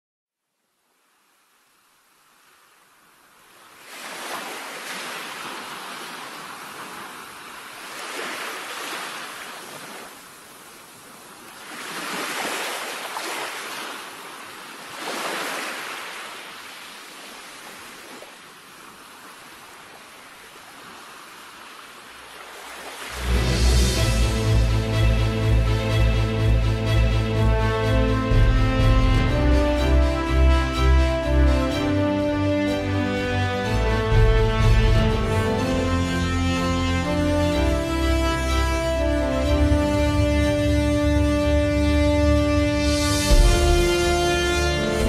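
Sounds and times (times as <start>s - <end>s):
ocean waves breaking: 2.3s - 45.0s.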